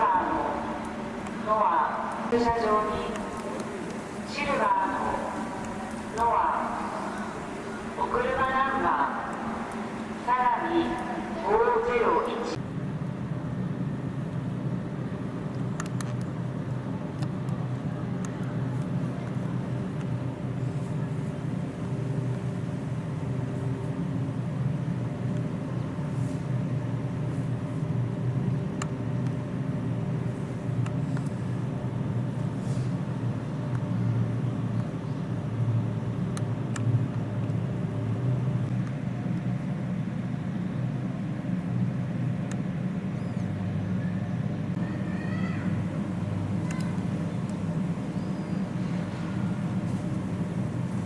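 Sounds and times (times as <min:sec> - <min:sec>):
machinery droning: 0:00.0 - 0:51.0.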